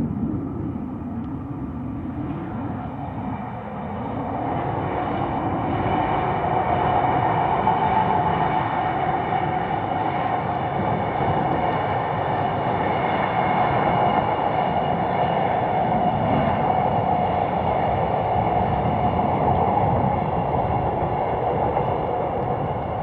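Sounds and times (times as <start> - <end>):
diesel locomotive engine: 0.0 - 23.0
wheels rolling on rails: 4.1 - 23.0.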